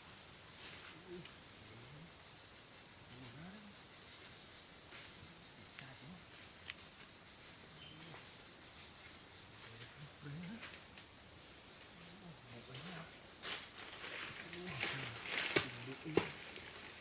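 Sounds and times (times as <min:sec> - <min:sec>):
insects buzzing: 0:00.0 - 0:17.0
pulsing insect chirring: 0:00.0 - 0:17.0.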